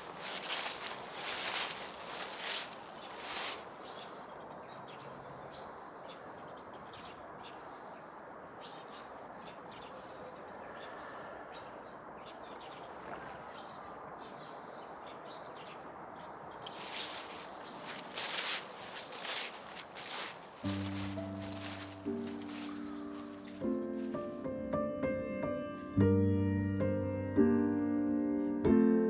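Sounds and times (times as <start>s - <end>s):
small birds chirping: 0.0s - 26.0s
outdoor background hiss: 0.0s - 26.2s.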